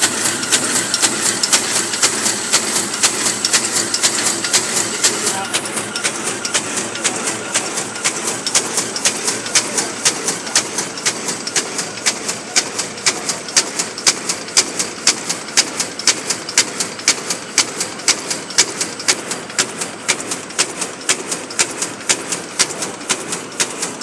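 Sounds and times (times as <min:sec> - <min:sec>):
machine clattering with sharp clicks: 0:00.0 - 0:24.0.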